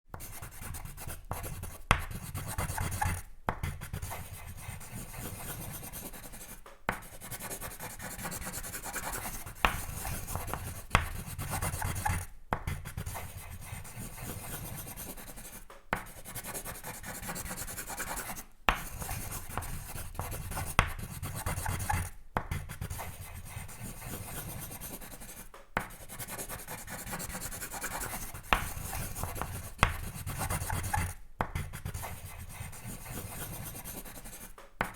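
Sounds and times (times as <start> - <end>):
drawing tool scratching on paper: 0.2 - 34.9.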